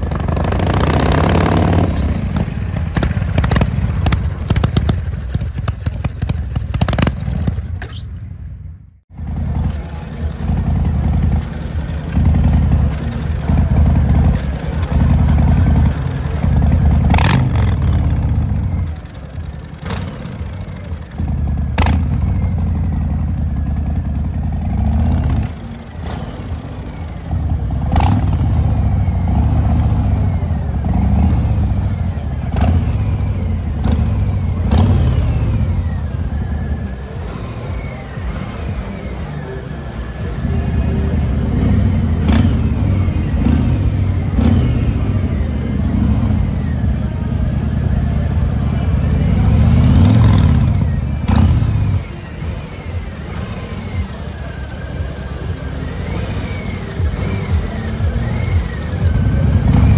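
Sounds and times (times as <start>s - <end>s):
motorcycle exhaust rumble: 0.0s - 59.9s.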